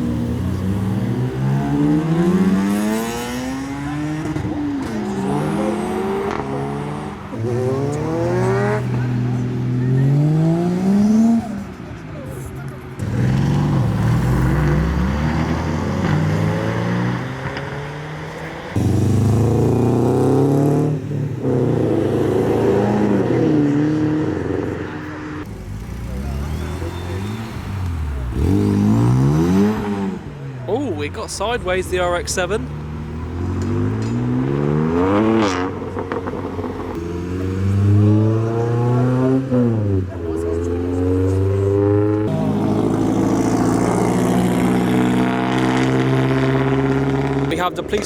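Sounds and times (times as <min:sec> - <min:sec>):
rotary engine revving: 0:00.0 - 0:11.7, 0:13.0 - 0:30.4, 0:31.1 - 0:48.0.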